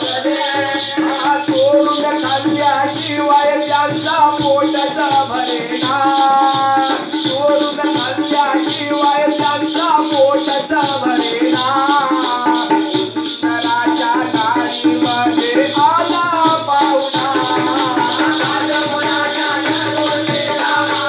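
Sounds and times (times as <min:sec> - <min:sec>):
rattling jingling percussion: 0:00.0 - 0:21.0.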